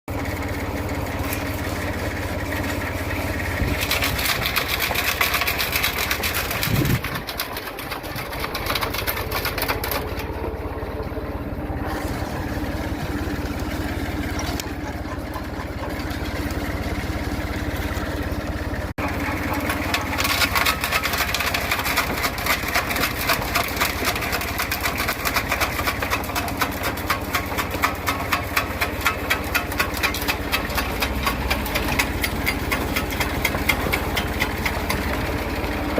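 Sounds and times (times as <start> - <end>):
wood chipper running: 0.1 - 35.9.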